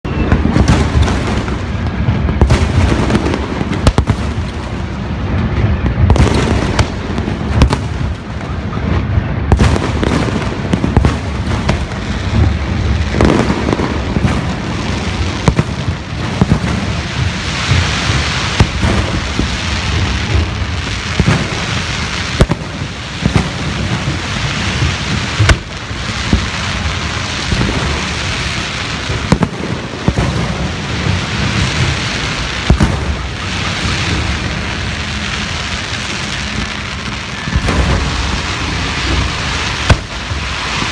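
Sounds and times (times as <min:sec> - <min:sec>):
fireworks booming and banging: 0:00.0 - 0:40.9
fireworks crackling: 0:00.0 - 0:40.9.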